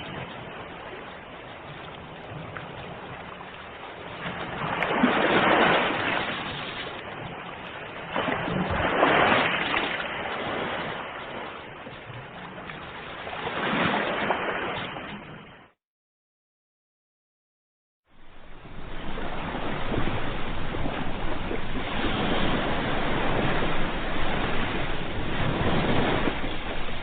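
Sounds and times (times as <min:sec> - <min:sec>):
ocean waves washing ashore: 0:00.0 - 0:15.8, 0:18.1 - 0:27.0.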